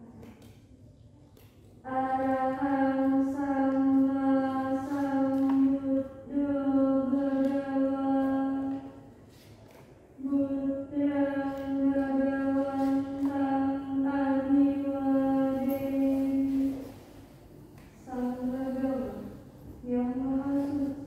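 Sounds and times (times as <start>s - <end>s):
woman chanting: 1.8s - 9.0s, 10.2s - 17.1s, 18.0s - 21.0s.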